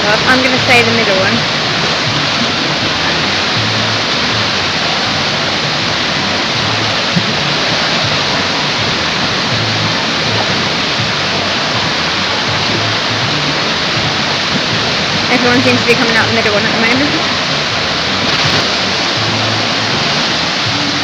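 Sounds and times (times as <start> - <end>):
music with bass line: 0.0 - 21.0
water pouring into splash pool: 0.0 - 21.0.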